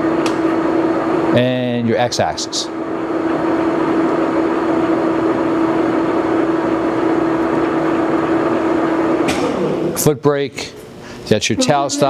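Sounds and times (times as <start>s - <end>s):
lathe running with steady hum: 0.0s - 12.0s.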